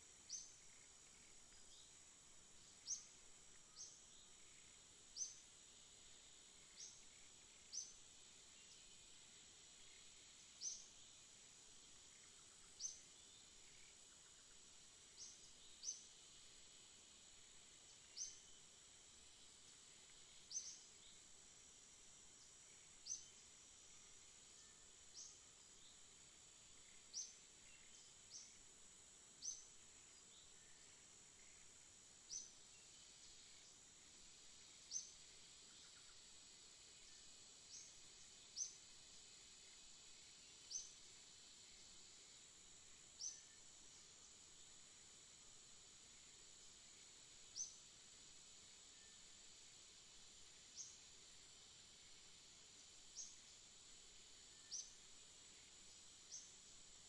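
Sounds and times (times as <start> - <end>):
songbird chirping: 0.0 - 16.5, 19.4 - 28.7, 29.3 - 36.4, 37.0 - 44.4, 46.2 - 47.9, 52.8 - 56.8.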